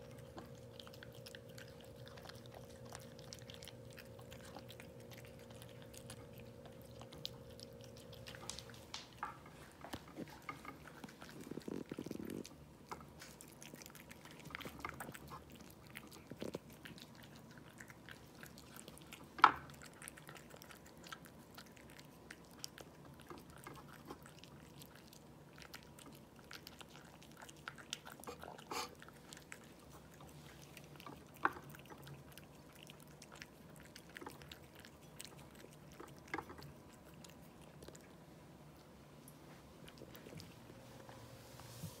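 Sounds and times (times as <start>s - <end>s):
cats chewing wet food: 0.0s - 42.0s.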